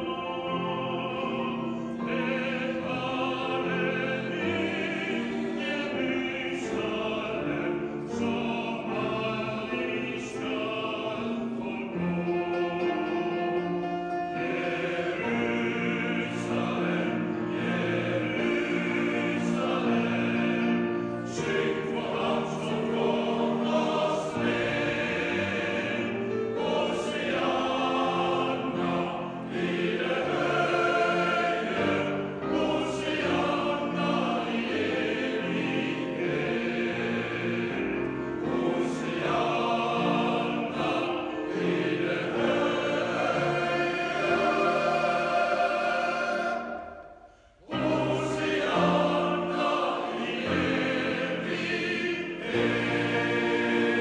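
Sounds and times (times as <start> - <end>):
men's choir singing: 0.0 - 54.0
piano accompaniment: 0.0 - 54.0.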